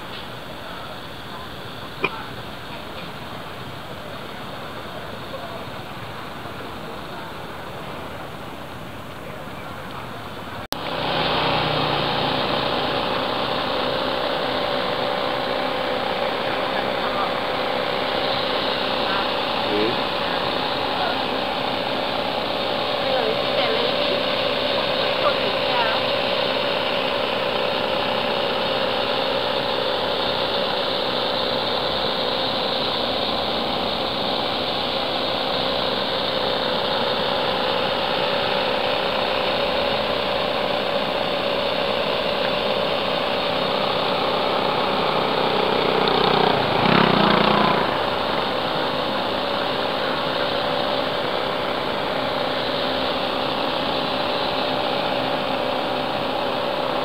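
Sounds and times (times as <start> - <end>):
mechanical hum of engines: 0.0 - 57.0.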